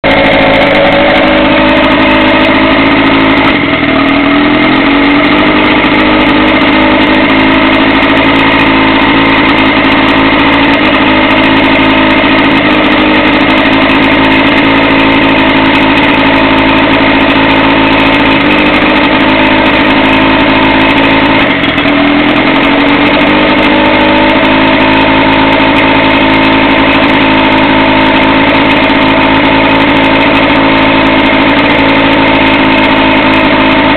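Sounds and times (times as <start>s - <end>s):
boat motor running: 0.0s - 33.9s.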